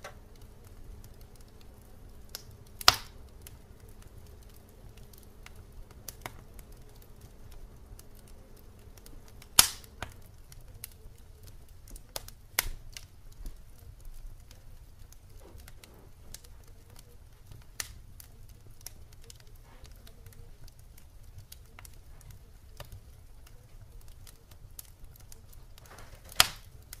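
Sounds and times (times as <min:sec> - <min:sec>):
faint low rumble: 0:00.0 - 0:27.0
sharp clicks and pops: 0:00.0 - 0:27.0.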